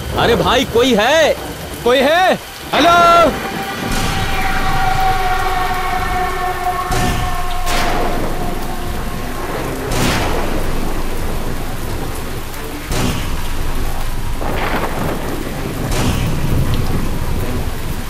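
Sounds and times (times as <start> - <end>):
heavy rain pouring: 0.0 - 18.0
thunder claps: 0.0 - 18.0.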